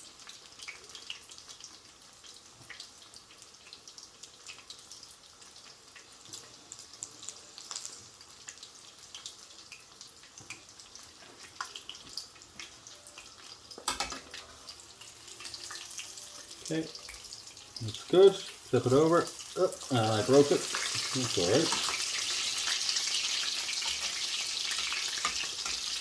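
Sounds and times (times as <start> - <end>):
chicken sizzling in frying pan: 0.0 - 26.0.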